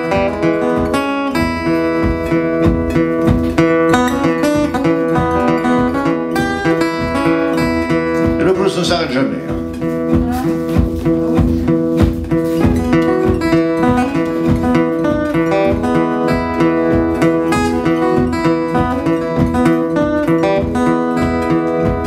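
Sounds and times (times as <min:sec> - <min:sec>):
fingerstyle acoustic guitar: 0:00.0 - 0:22.0.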